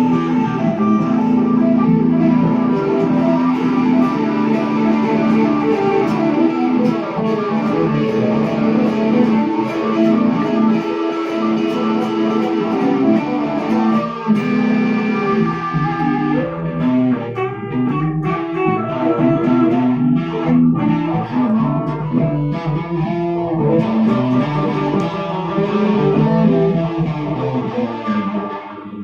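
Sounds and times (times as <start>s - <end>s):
blues electric guitar: 0.0s - 29.0s
low accompaniment: 0.0s - 29.0s.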